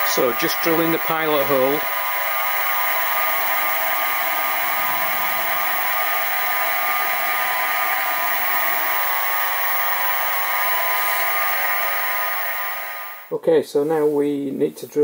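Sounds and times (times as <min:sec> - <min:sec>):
milling machine motor whine: 0:00.0 - 0:13.3.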